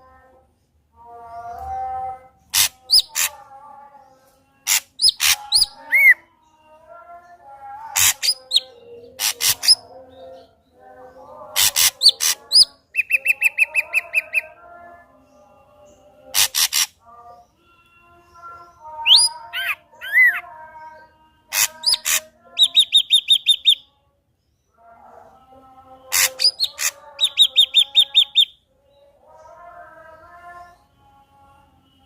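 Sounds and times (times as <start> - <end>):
bird singing varied song: 1.0 - 32.0.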